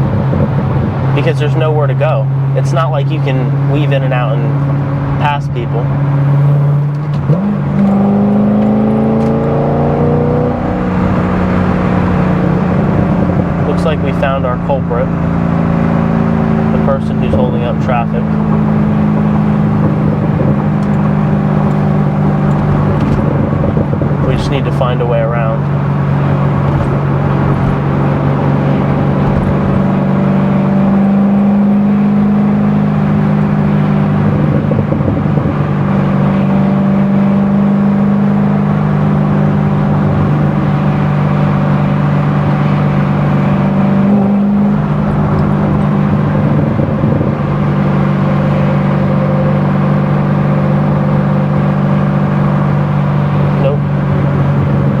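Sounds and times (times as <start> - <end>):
car engine cruising: 0.0 - 55.0.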